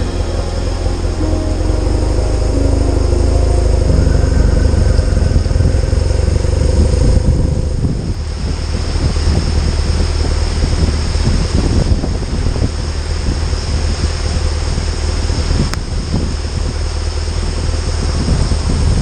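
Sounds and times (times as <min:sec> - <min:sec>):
motorcycle engine running: 0:00.0 - 0:19.0
wind rush over microphone: 0:02.2 - 0:19.0.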